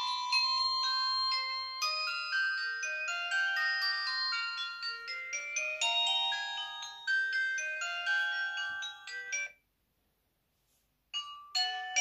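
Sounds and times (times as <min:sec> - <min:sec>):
phone ringtone melody: 0:00.0 - 0:09.6, 0:11.2 - 0:12.0.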